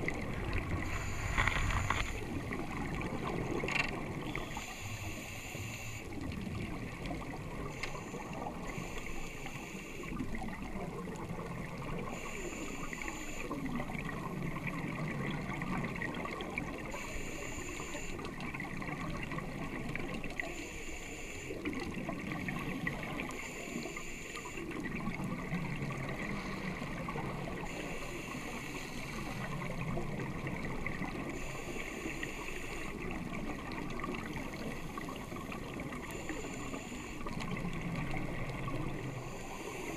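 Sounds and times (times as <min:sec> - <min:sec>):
bubbles gurgling underwater: 0:00.0 - 0:05.2, 0:06.0 - 0:08.8, 0:10.0 - 0:12.2, 0:12.9 - 0:17.0, 0:18.2 - 0:20.5, 0:21.6 - 0:23.9, 0:24.6 - 0:31.9, 0:32.8 - 0:39.9.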